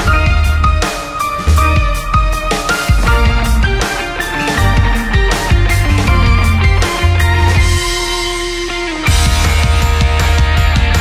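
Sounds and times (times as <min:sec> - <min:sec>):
rock instrumental music: 0:00.0 - 0:11.0.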